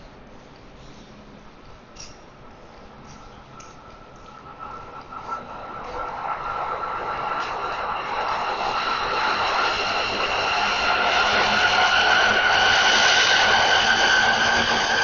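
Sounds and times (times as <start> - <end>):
vehicle high-pitched whine: 2.6 - 15.0.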